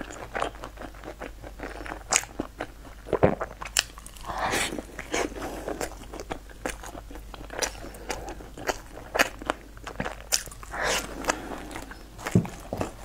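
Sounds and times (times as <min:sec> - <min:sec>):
chewing crunchy pastry: 0:00.0 - 0:13.0.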